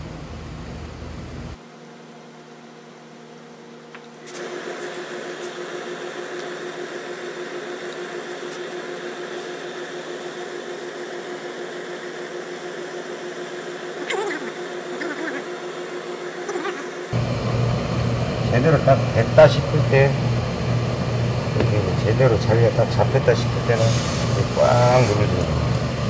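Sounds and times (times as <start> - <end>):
mechanical hum with hiss: 0.0 - 26.0.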